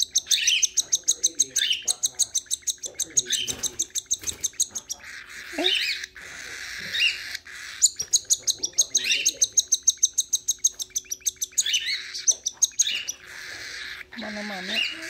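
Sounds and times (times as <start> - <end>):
bird chick begging chirps: 0.0 - 15.0.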